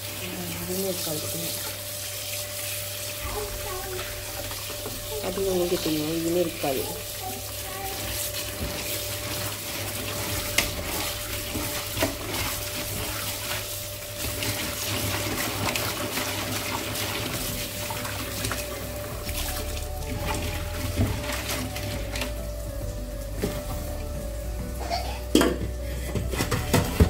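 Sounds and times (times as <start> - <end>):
tap water running into a pot: 0.0 - 27.0.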